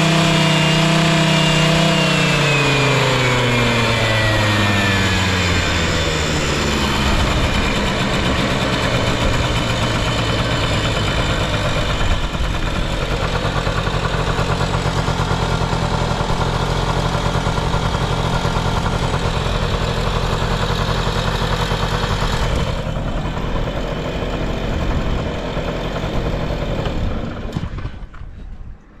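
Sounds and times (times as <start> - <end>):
scooter engine idling: 0.0 - 27.8.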